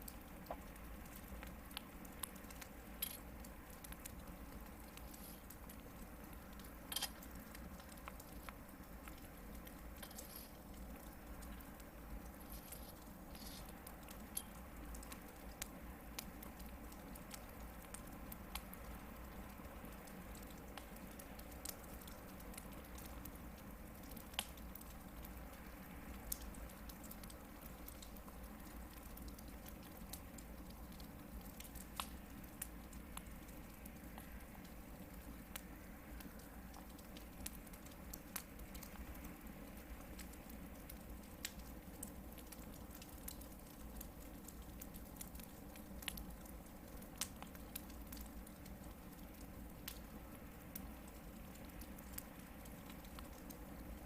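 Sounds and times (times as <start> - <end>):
campfire rumbling: 0.0 - 54.0
crackles and pops from logs: 0.0 - 54.0.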